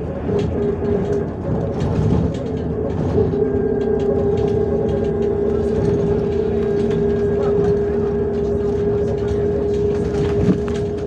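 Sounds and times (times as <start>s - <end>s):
engine and road rumble: 0.0s - 11.0s
steady whine: 0.0s - 11.0s.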